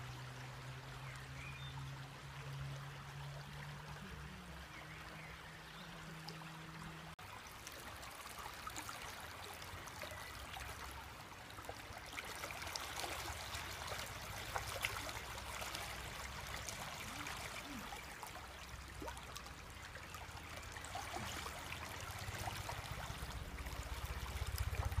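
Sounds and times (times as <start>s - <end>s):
stream water over rocks: 0.0s - 25.0s.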